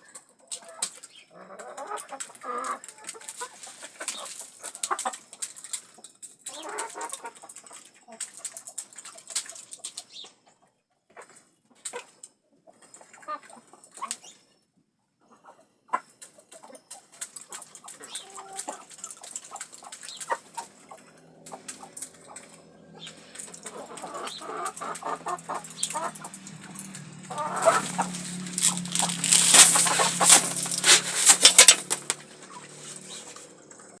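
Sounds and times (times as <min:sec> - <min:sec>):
chickens pecking at grain: 0:00.0 - 0:14.3, 0:15.4 - 0:34.0
chickens clucking: 0:00.0 - 0:14.4, 0:15.2 - 0:34.0.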